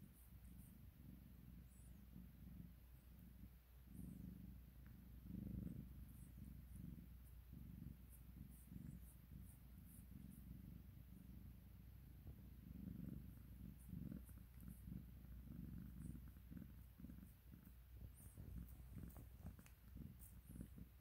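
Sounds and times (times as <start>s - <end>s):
cat purring softly: 0.0s - 21.0s.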